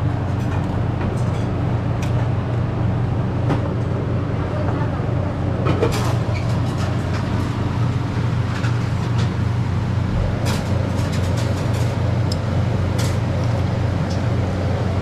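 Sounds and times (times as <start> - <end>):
restaurant low drone: 0.0 - 15.0.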